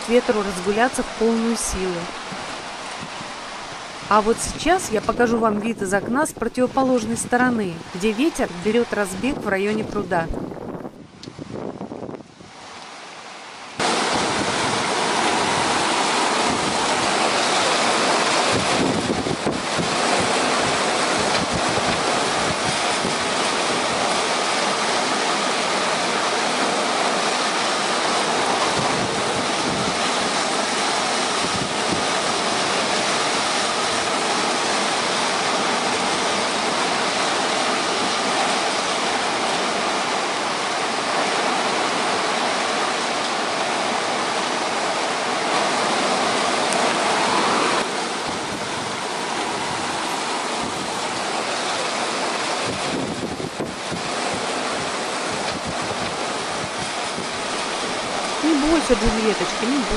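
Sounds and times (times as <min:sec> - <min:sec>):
gusting wind: 0:00.0 - 0:59.9
heavy rain: 0:00.0 - 0:59.9.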